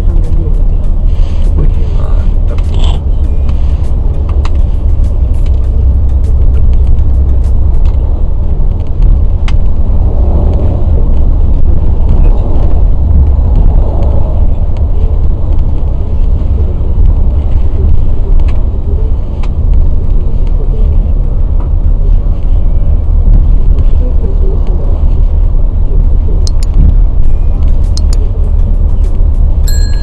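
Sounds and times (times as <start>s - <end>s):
vehicle rumble from inside cabin: 0.0s - 30.0s.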